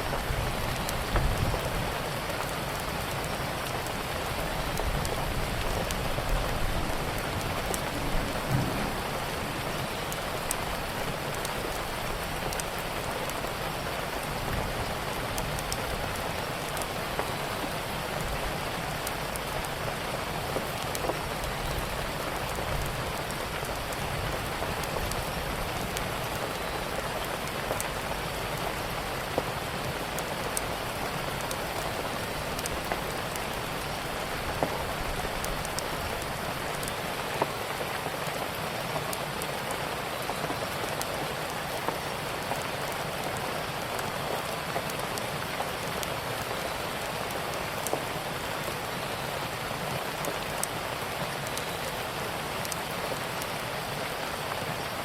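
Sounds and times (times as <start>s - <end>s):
steady rain: 0.0s - 55.0s
wood fire crackling: 0.0s - 55.0s.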